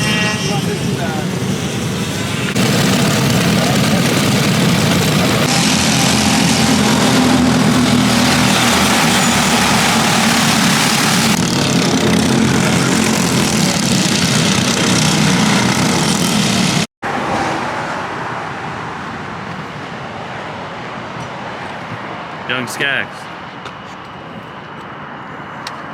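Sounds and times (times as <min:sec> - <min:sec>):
go-kart engines racing: 0:00.0 - 0:23.5.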